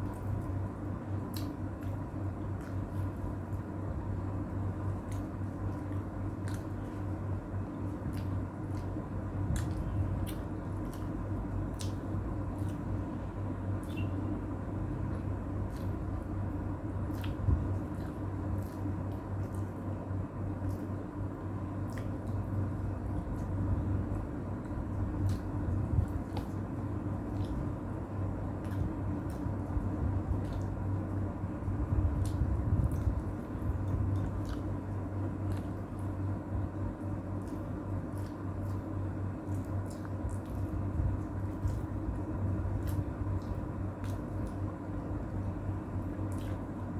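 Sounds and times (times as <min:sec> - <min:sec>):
person chewing and lip smacking: 0:00.0 - 0:46.9
steady low hum: 0:00.0 - 0:46.9.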